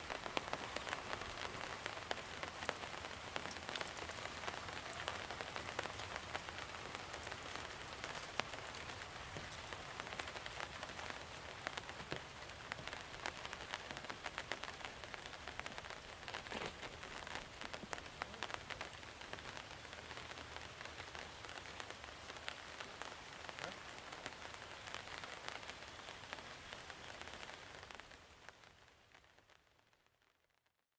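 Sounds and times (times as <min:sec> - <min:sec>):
raindrops ticking: 0:00.0 - 0:29.6
heavy rain pattering: 0:00.0 - 0:30.3.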